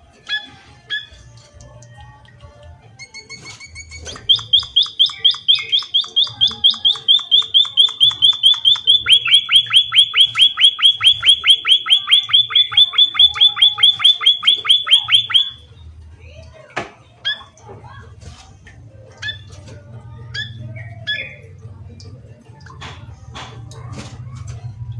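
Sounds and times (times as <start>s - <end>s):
songbird chirping: 0.1s - 18.0s, 18.9s - 22.9s.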